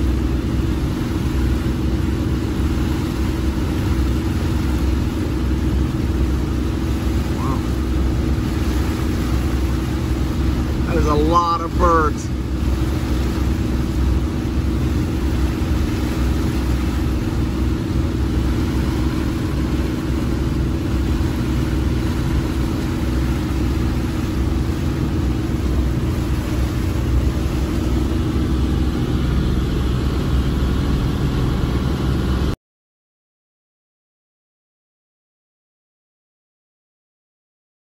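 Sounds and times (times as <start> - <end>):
boat diesel engines droning: 0.0 - 32.6.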